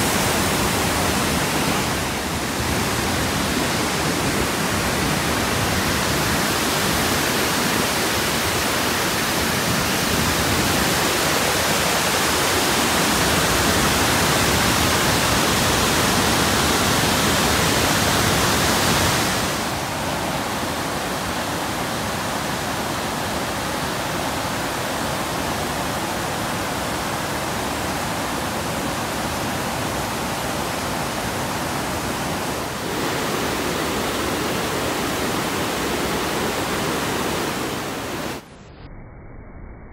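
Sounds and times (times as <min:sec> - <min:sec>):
waterfall rushing: 0:00.0 - 0:38.5.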